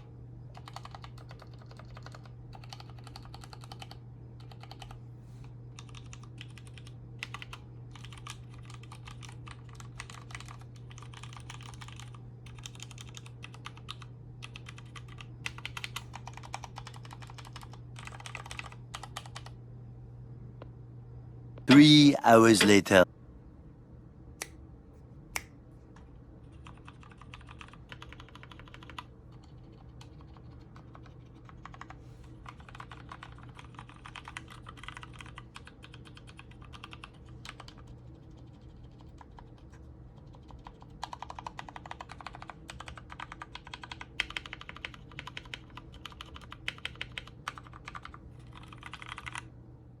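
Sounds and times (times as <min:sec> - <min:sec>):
mechanical keyboard typing: 0:00.5 - 0:05.0, 0:05.8 - 0:19.5, 0:26.5 - 0:31.9, 0:32.5 - 0:49.4.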